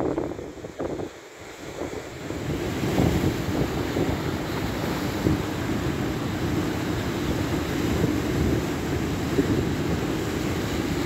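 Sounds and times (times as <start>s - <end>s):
sea water surging through rocks: 0.0s - 11.0s
wind buffeting microphone: 0.0s - 11.0s.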